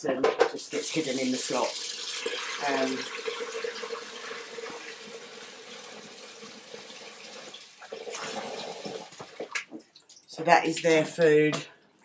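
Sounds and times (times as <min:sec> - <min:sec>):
water running from a tap: 0:00.6 - 0:10.9.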